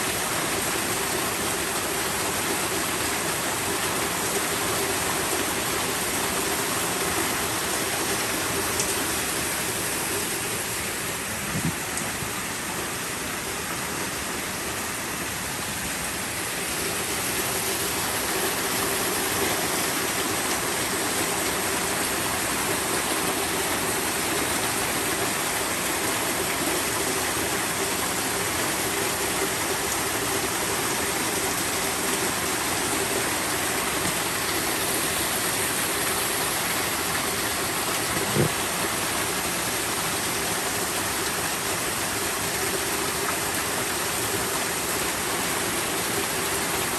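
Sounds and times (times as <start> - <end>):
rushing water pouring: 0.0 - 46.9.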